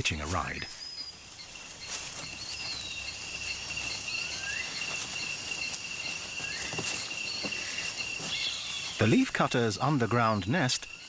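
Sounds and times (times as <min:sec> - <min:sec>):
high-pitched insect trill: 0:00.0 - 0:11.0.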